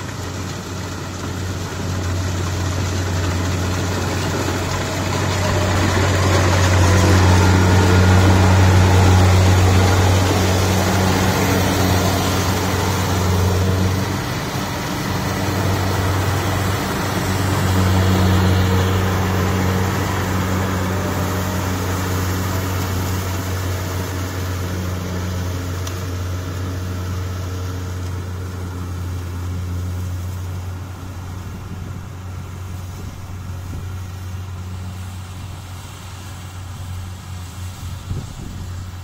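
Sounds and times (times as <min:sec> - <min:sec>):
combine harvester engine drone: 0:00.0 - 0:39.0.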